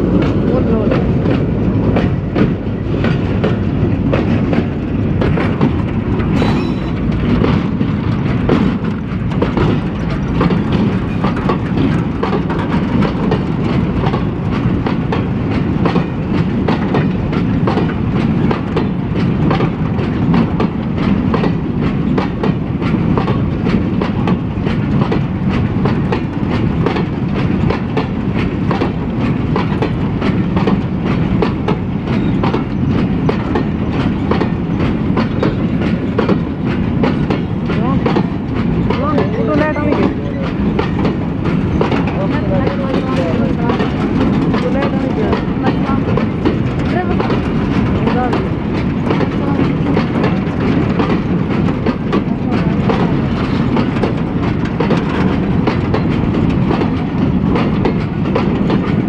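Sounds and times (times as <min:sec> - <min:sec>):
steel wheels clanking on rails: 0:00.0 - 0:59.0.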